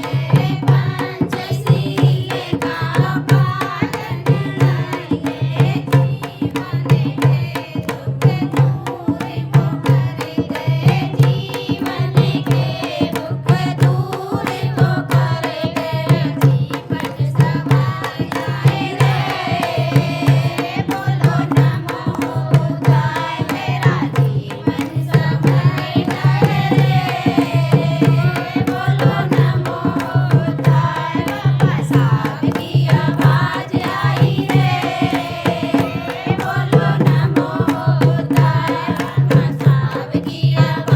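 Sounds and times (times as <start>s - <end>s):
hand drum beating: 0.0s - 40.9s
person singing devotional song: 0.0s - 40.9s.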